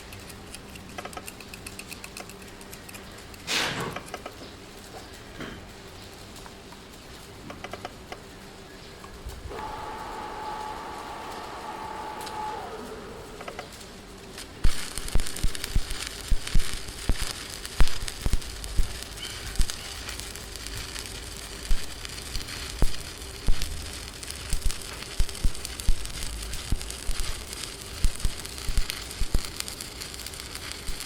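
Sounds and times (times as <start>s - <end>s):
welding arc sharp pops: 0.0s - 8.3s, 9.0s - 31.0s
arc welding crackling hiss: 0.0s - 31.0s.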